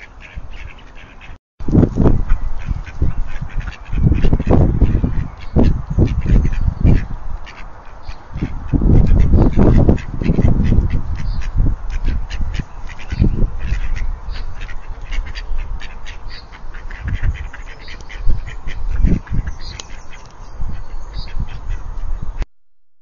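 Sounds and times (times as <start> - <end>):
ducks quacking: 0.0 - 1.4, 2.3 - 22.0.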